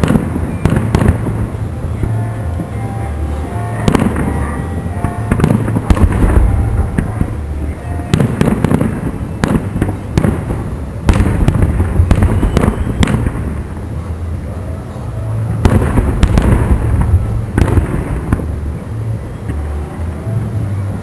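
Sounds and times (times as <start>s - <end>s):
continuous low rumble: 0.0s - 21.0s.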